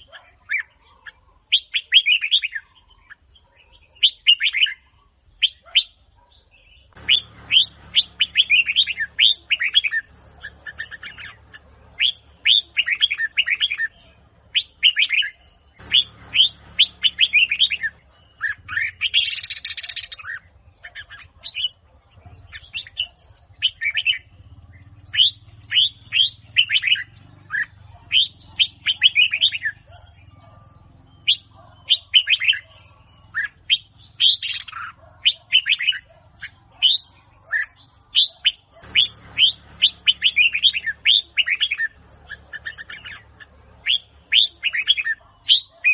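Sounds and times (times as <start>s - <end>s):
songbird singing bright notes: 0.0s - 45.9s.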